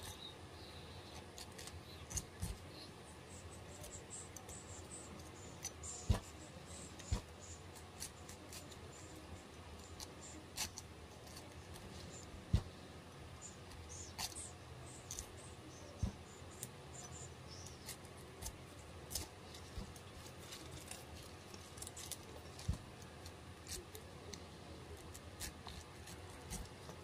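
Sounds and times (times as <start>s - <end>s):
knife scraping pineapple rind: 0.0s - 27.0s.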